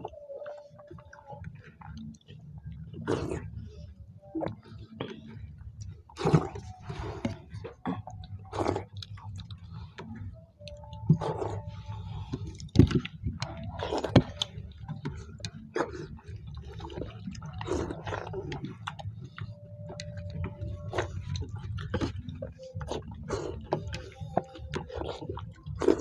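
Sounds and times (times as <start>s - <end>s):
low hum: 0.0s - 26.0s
wet chewing and lip smacking: 0.0s - 26.0s.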